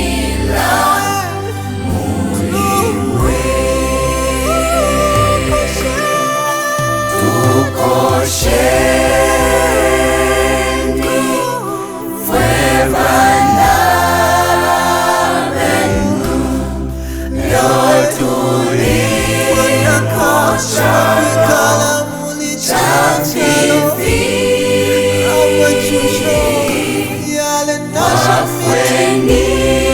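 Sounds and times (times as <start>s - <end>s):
bass accompaniment: 0.0s - 29.9s
choir singing gospel song: 0.0s - 29.9s.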